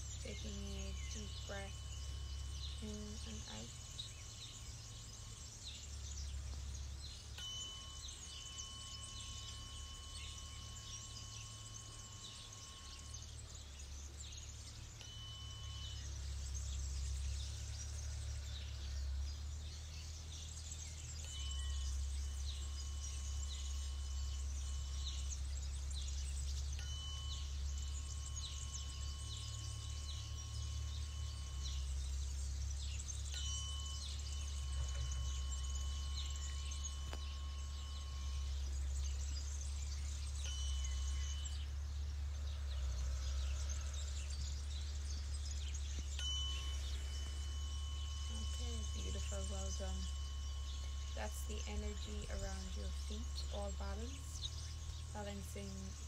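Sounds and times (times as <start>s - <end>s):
tuning fork ringing: 0.0s - 56.0s.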